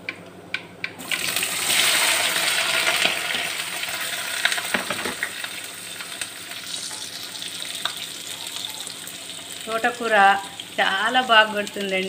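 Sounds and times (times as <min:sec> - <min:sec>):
food sizzling in hot oil: 0:01.0 - 0:12.0.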